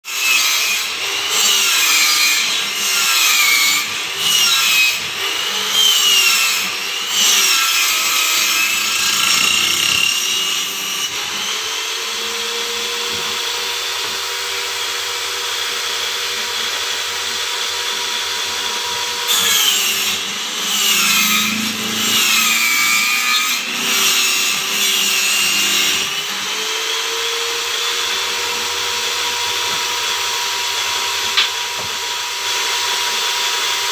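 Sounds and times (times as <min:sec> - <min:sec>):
table saw cutting wood: 0:00.1 - 0:33.9.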